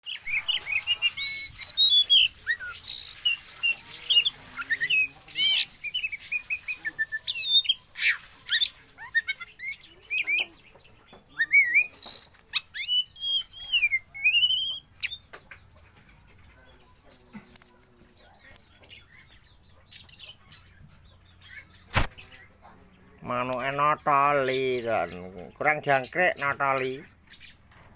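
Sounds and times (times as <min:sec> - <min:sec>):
songbird singing: 0:00.0 - 0:27.9.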